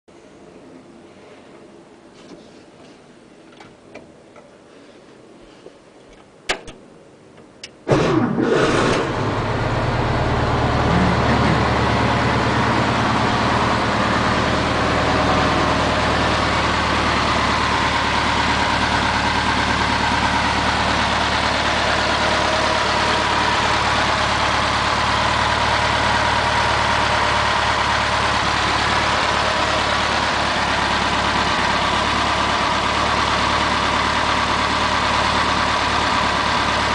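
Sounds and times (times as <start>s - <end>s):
car engine starting and idling: 6.5s - 36.9s.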